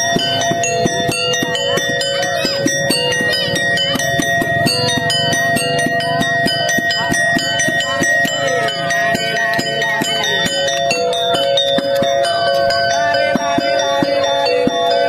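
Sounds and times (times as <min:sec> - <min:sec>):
ringing bell-like metal tones: 0:00.0 - 0:15.0
steady held notes: 0:00.0 - 0:15.0.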